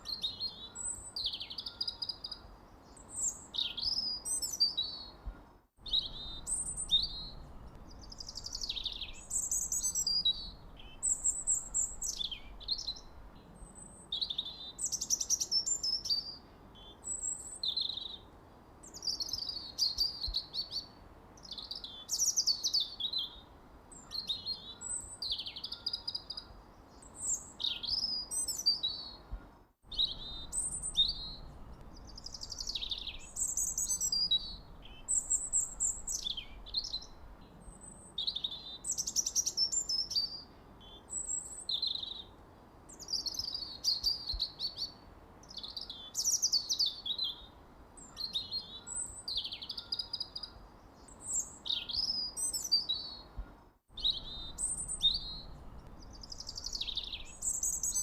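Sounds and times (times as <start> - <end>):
faint steady hiss: 0.0 - 58.0
songbirds chirping: 0.0 - 58.0.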